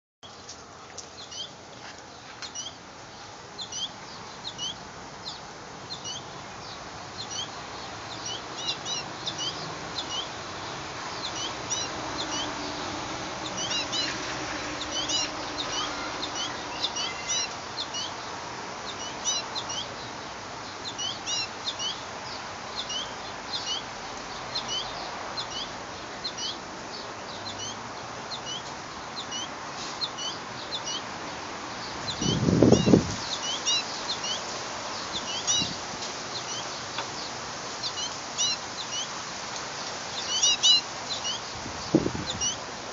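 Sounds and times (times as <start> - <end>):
small songbirds chirping: 0.2 - 42.9.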